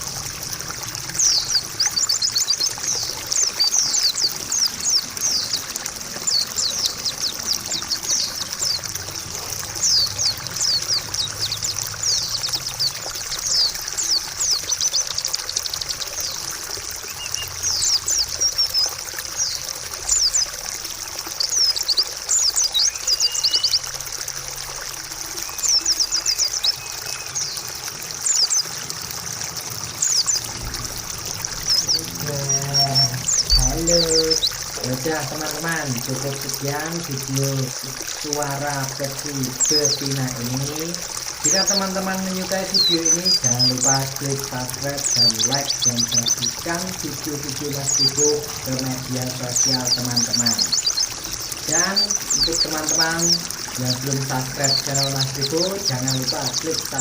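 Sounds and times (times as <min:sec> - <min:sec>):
trickling water: 0:00.0 - 0:57.0
bird singing high chirps: 0:01.1 - 0:20.6, 0:21.3 - 0:24.0, 0:25.3 - 0:28.8, 0:29.9 - 0:37.2, 0:39.4 - 0:57.0.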